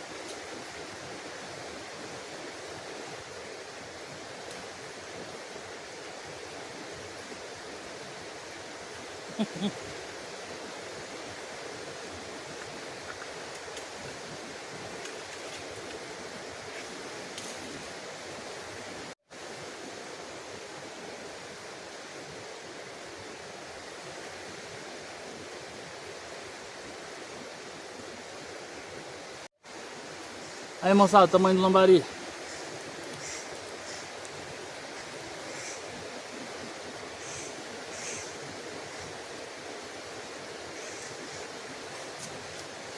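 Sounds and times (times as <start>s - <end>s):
stream flowing: 0.0s - 42.9s.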